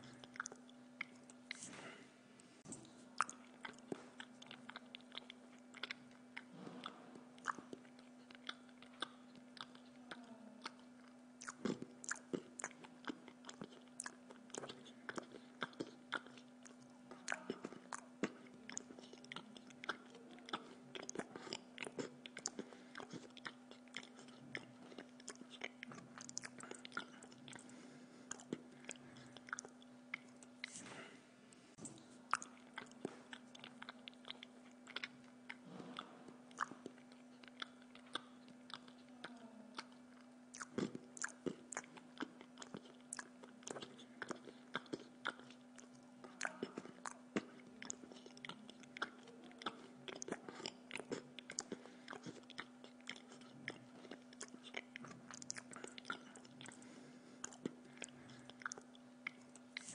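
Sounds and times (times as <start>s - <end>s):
person chewing pizza: 0.0s - 59.9s.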